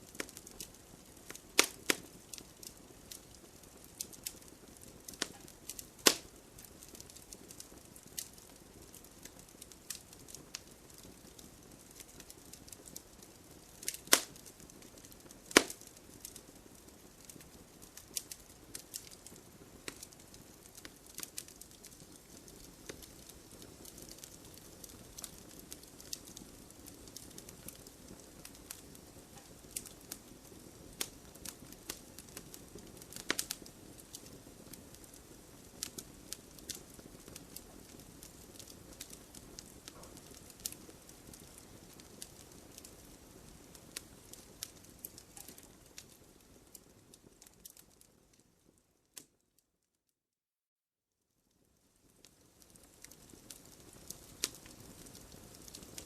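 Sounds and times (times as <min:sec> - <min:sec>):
campfire hissing: 0:00.0 - 0:47.9, 0:52.1 - 0:56.0
fire crackling and popping: 0:00.0 - 0:49.5, 0:51.4 - 0:56.0.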